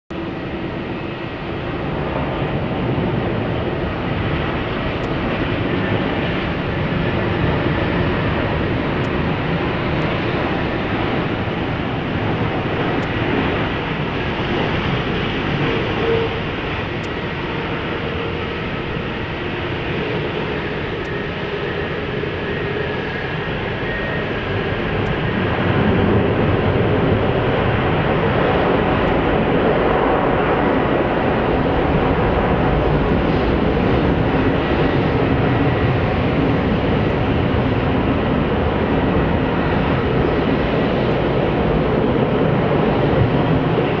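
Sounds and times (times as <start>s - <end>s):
jet engine rumble: 0.1s - 44.0s.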